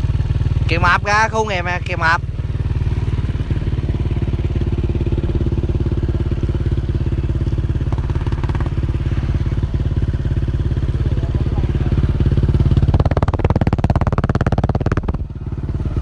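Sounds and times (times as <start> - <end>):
motorcycle exhaust beat: 0.0 - 16.0.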